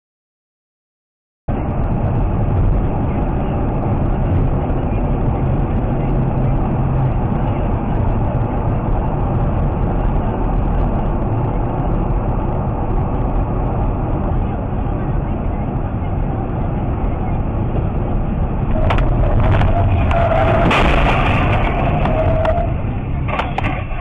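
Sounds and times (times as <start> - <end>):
vehicle engine and road noise: 1.5 - 24.0.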